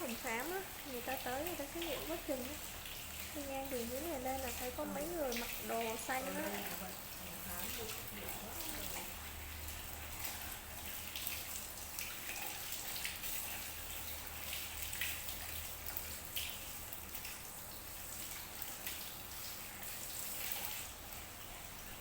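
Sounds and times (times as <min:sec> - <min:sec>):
water patter and drips: 0:00.0 - 0:22.0.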